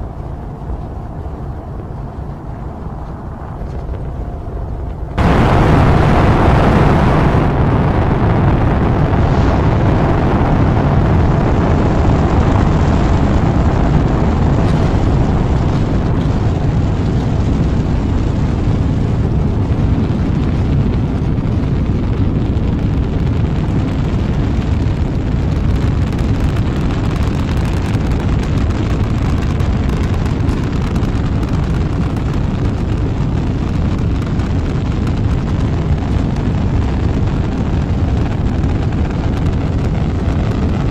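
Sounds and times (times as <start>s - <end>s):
rocket engine roar: 0.0s - 40.9s.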